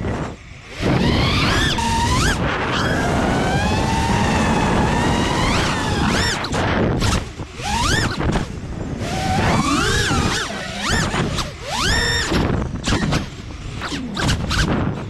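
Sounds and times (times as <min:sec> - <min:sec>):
drone motors whining: 0:00.0 - 0:15.0
rush of wind: 0:00.0 - 0:15.0.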